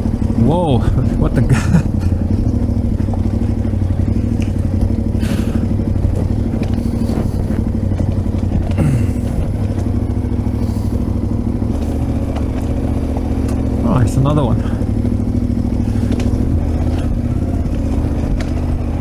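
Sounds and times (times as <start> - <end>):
motorcycle clattering: 0.0 - 19.0
motorcycle engine running: 0.0 - 19.0.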